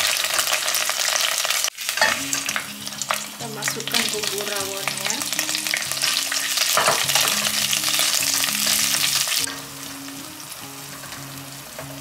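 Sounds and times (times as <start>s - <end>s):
spice paste sizzling in oil: 0.0s - 12.0s.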